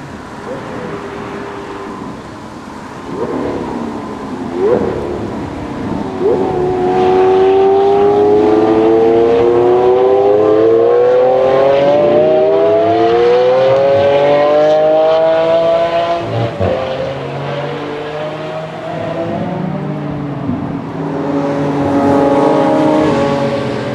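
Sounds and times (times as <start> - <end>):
car engine accelerating hard: 0.0 - 23.9.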